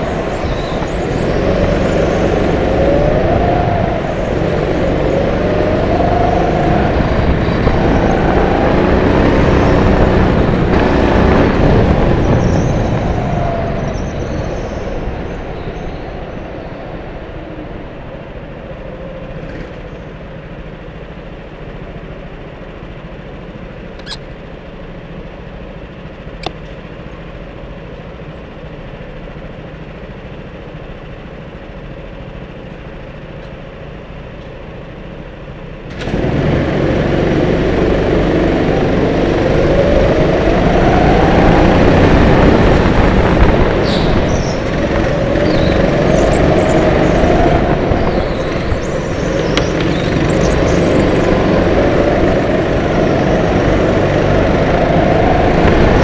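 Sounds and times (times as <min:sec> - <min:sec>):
go-kart engine: 0:00.0 - 0:56.0.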